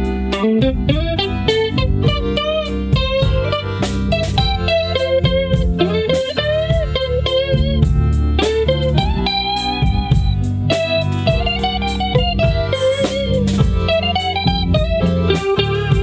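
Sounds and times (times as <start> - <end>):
electric guitar lead with bent notes: 0.0 - 16.0
low bass part: 0.0 - 16.0
percussive hits: 0.0 - 16.0.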